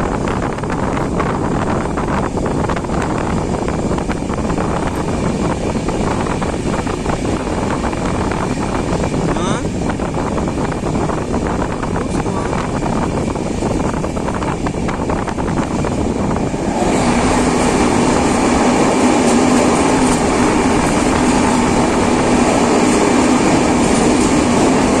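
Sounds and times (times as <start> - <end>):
rushing air: 0.0 - 25.0
train wheels on rails: 0.0 - 25.0.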